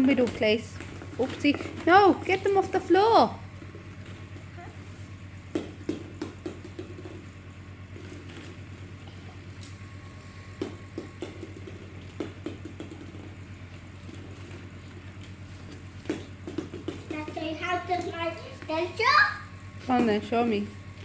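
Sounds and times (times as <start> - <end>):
plastic balls knocking and clattering: 0.0 - 21.0
steady low hum: 0.0 - 21.0.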